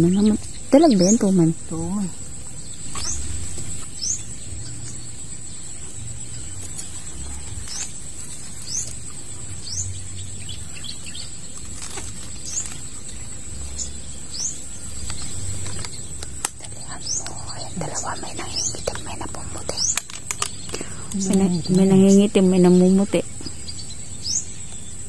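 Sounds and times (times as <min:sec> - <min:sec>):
small bird chirping: 0:00.0 - 0:25.0
steady high-pitched whine: 0:00.0 - 0:25.0.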